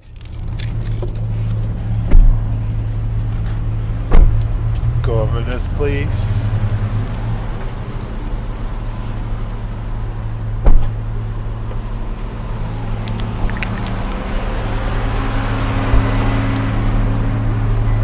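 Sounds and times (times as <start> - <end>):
car engine humming: 0.0 - 18.0.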